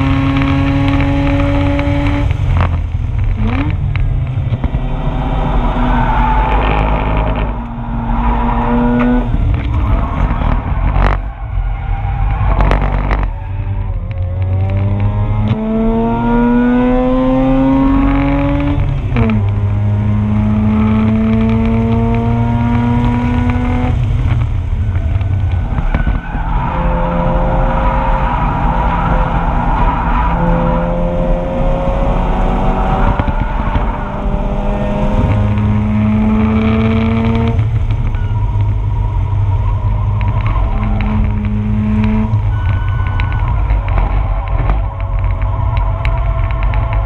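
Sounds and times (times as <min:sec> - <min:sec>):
car engine revving: 0:00.0 - 0:47.0
road and wind rumble: 0:00.0 - 0:47.0.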